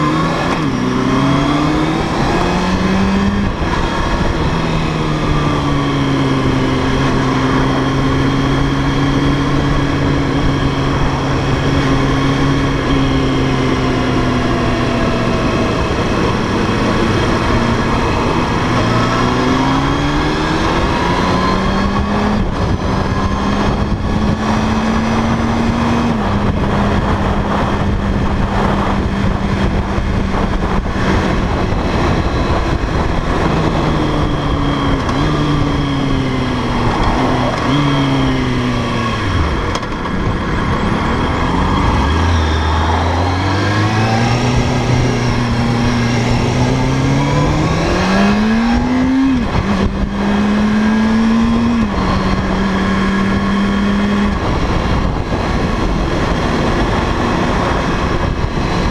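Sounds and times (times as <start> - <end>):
motorcycle engine: 0.0 - 58.9
wind rush on microphone: 0.0 - 58.9.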